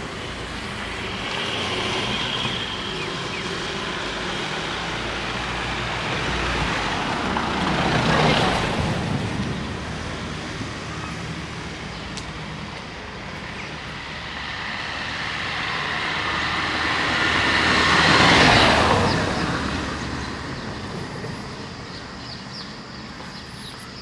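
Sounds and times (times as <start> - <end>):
vehicle passing close by: 0.0 - 12.6, 13.9 - 21.2
low traffic hum: 0.0 - 24.0.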